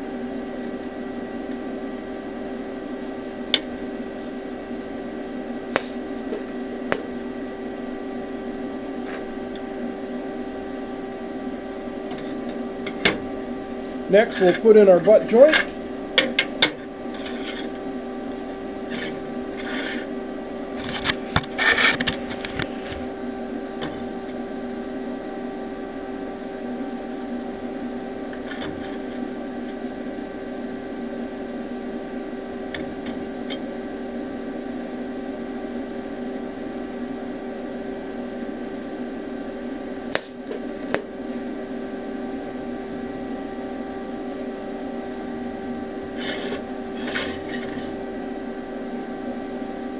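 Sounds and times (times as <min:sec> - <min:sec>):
machine hum: 0:00.0 - 0:49.9.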